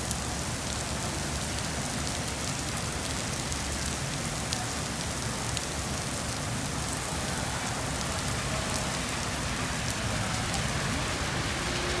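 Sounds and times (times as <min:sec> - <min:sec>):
heavy rain on paving: 0:00.0 - 0:12.0.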